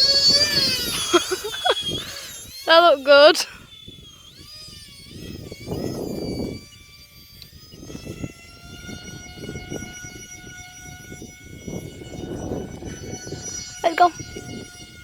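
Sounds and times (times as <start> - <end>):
electric ducted fans whining: 0.0 - 15.0
wind buffeting microphone: 0.0 - 15.0.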